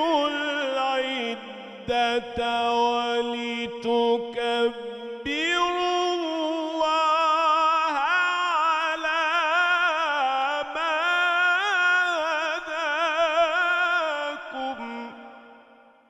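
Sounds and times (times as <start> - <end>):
man reciting in melodic chant: 0.0 - 15.8.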